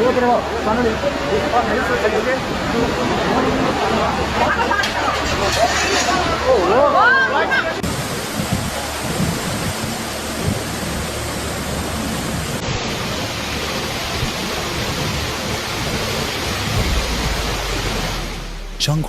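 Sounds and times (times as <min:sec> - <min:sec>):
torrential rain: 0:00.0 - 0:19.0.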